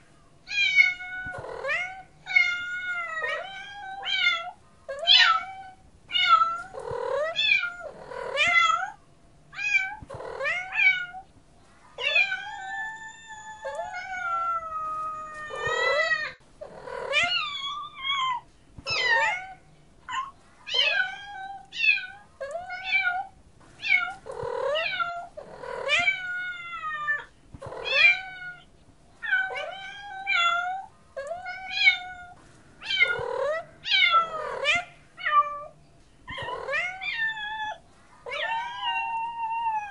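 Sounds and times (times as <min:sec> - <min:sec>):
cats meowing: 0:00.5 - 0:11.3, 0:12.0 - 0:39.9.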